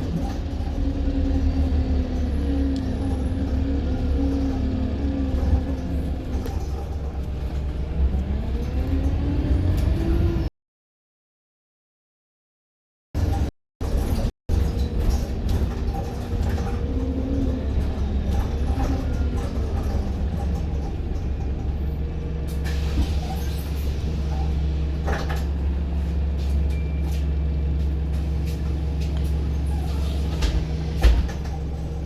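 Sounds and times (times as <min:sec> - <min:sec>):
bus diesel engine drone: 0:00.0 - 0:10.5, 0:13.2 - 0:32.0.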